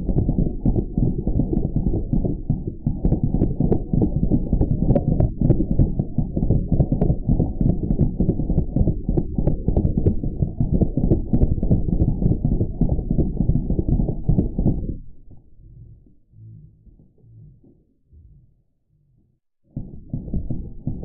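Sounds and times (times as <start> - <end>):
deep slowed-down rumbling: 0.0 - 21.0.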